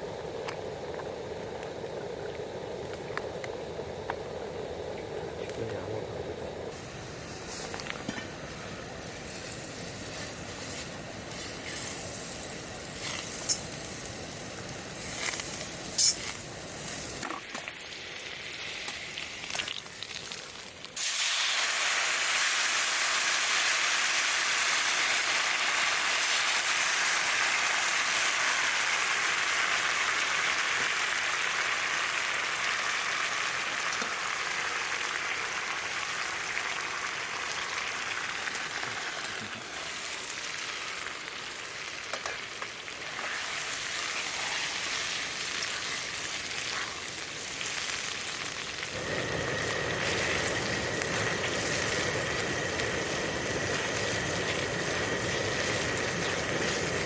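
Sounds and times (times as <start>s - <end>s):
loud steady sizzle: 0.0s - 57.0s
food sizzling in a pan: 6.7s - 57.0s.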